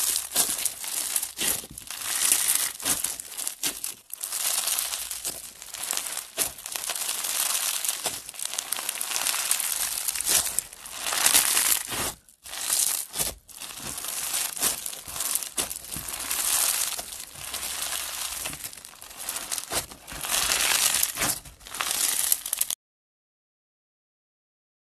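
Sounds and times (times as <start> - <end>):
slime crackling by hand: 0.0 - 22.8.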